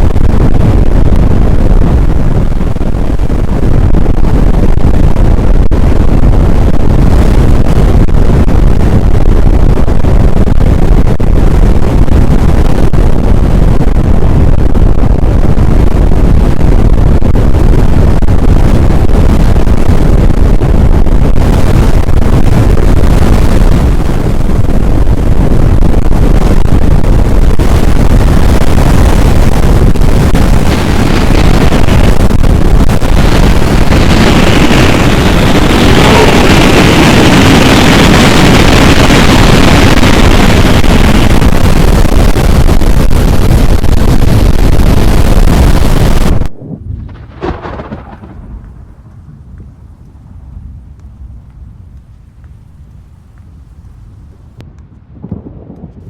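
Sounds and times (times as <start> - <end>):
strong wind buffeting microphone: 0.0 - 56.0.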